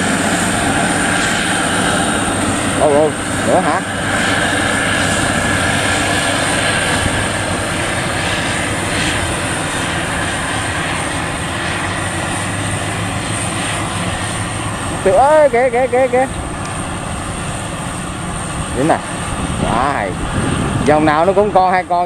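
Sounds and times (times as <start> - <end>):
combine harvester droning: 0.0 - 22.0.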